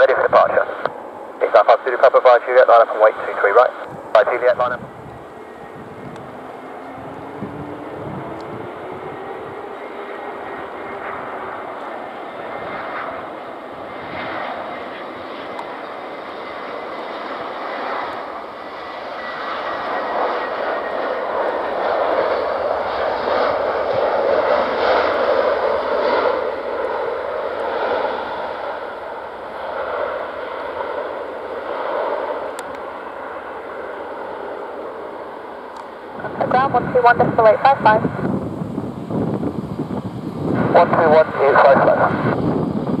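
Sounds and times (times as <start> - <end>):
jet engines roaring: 0.0 - 43.0.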